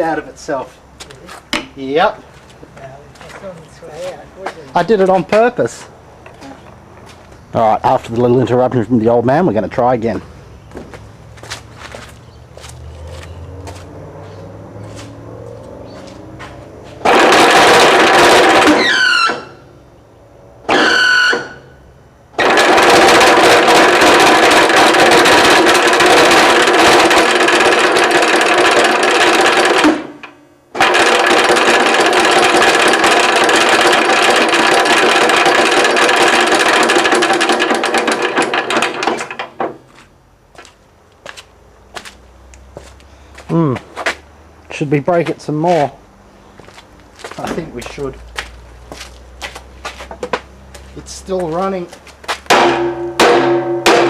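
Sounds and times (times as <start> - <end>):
air compressor clattering hum: 0.0 - 13.8, 16.0 - 19.7, 20.6 - 40.7, 46.6 - 54.0.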